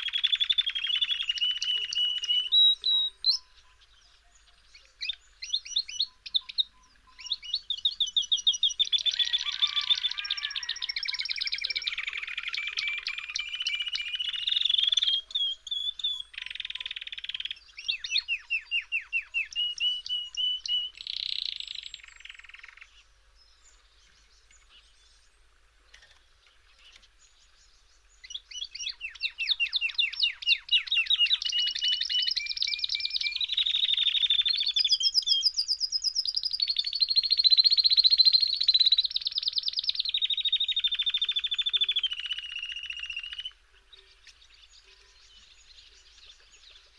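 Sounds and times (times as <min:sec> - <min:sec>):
songbird trilling: 0:00.0 - 0:46.9.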